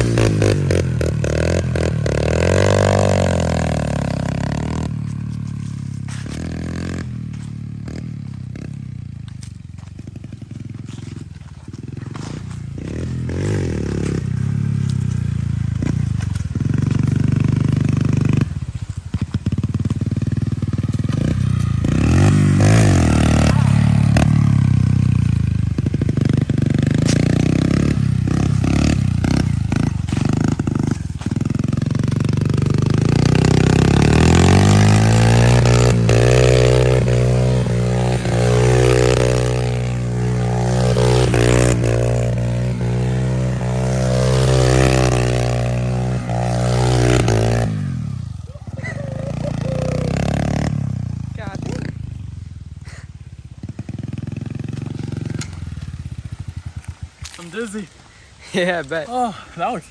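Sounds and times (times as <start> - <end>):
small engine revving: 0.0 - 57.5.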